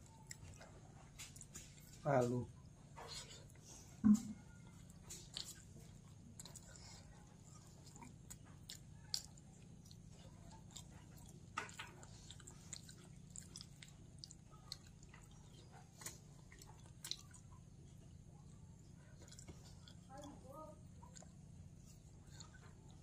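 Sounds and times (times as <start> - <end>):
person chewing food: 0.0 - 2.3, 3.0 - 23.0
faint low hum: 0.0 - 23.0.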